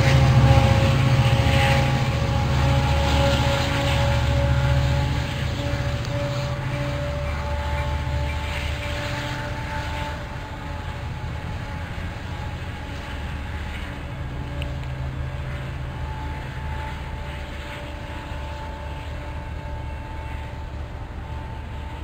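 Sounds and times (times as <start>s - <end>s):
distant train rumble: 0.0s - 22.0s
faint steady tones: 0.0s - 22.0s.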